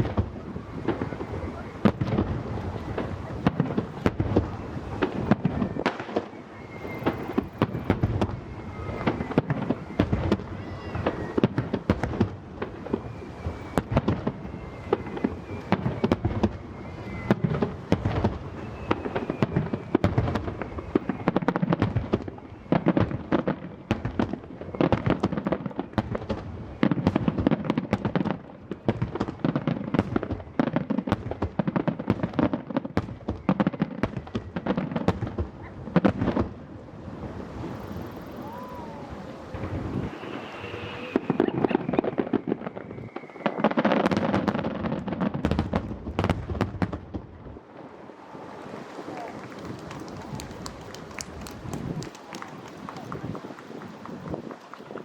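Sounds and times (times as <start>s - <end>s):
fireworks booming and crackling: 0.0s - 55.0s
fireworks falling whistles: 0.0s - 55.0s.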